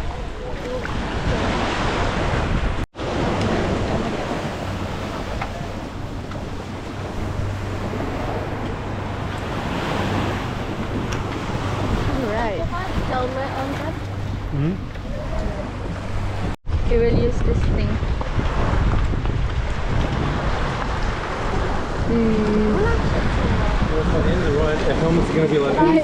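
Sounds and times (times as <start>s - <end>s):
rushing surf: 0.0s - 26.0s
wind buffeting microphone: 0.0s - 26.0s.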